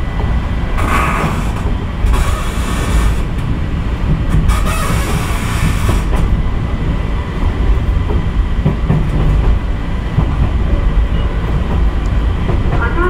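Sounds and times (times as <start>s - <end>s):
train low rumble: 0.0s - 13.0s
wheels clacking over rail joints: 0.0s - 13.0s.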